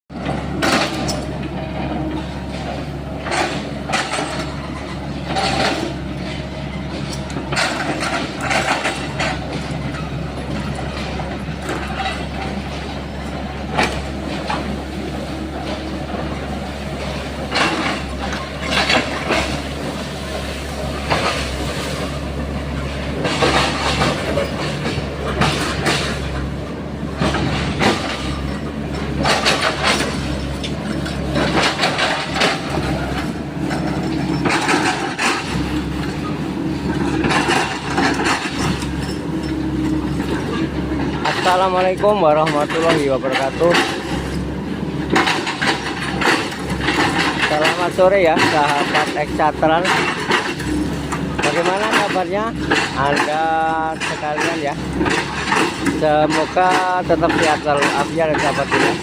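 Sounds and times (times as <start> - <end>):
excavator engine running: 0.1 - 59.0.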